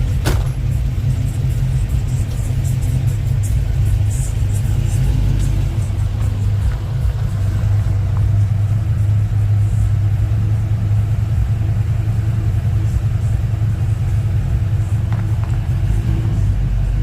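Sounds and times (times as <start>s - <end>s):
car engine deep rumble: 0.0s - 17.0s.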